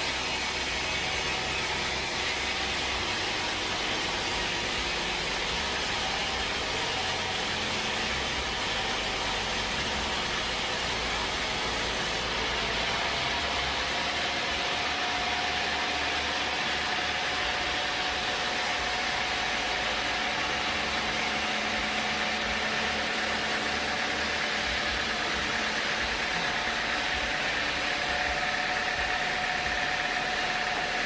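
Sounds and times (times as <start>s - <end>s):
sawmill machinery running: 0.0s - 31.0s.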